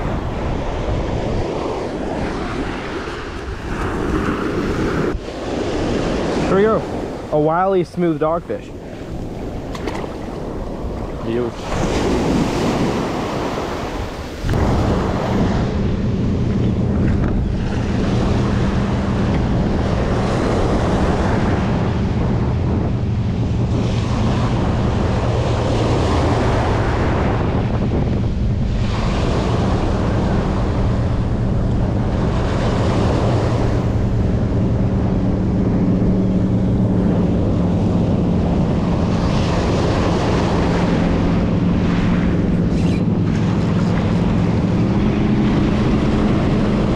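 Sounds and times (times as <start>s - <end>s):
ocean surf breaking: 0.0s - 46.9s
wind buffeting microphone: 0.0s - 46.9s
steady low hum: 5.0s - 46.9s.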